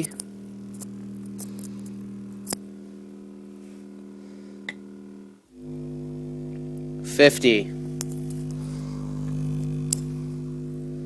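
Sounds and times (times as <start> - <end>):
low test tone hum: 0.0 - 11.0.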